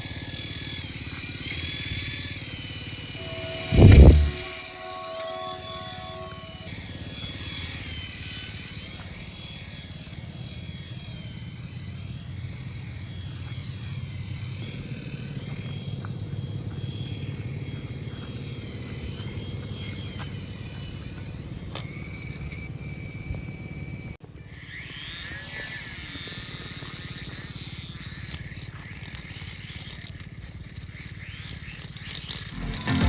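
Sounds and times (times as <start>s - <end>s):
toy helicopter buzzing: 0.0s - 32.9s.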